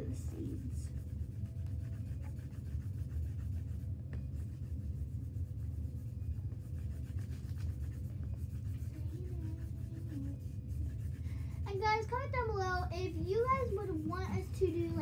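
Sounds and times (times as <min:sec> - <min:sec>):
pens scratching on paper: 0:00.0 - 0:15.0
steady low rumble: 0:00.0 - 0:15.0.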